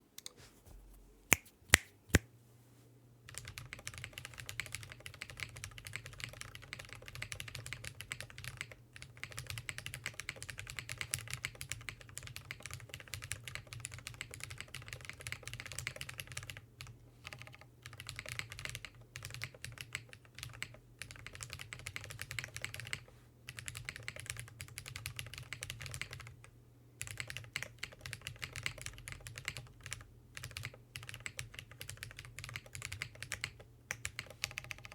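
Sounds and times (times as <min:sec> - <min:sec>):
keyboard typing: 0:03.3 - 0:26.4, 0:27.0 - 0:34.9.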